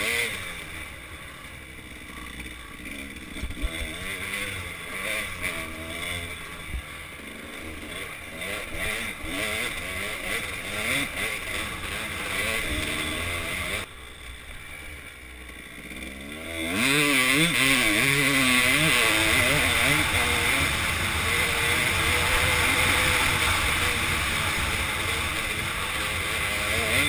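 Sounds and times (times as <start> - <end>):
trail bike engine revving: 0.0 - 27.0.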